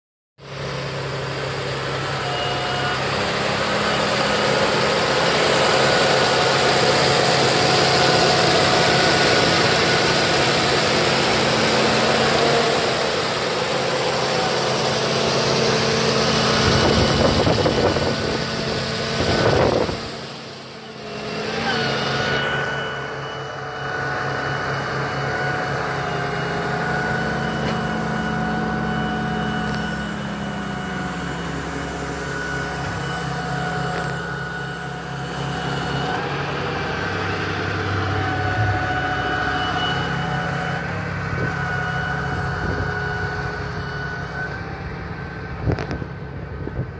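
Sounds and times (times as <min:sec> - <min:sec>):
diesel engine idling: 0:00.4 - 0:46.9.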